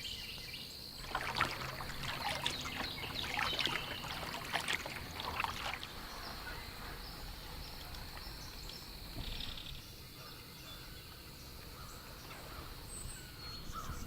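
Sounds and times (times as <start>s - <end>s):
faint high bird chirp: 0.0s - 14.0s
insects high-pitched whine: 0.0s - 14.0s.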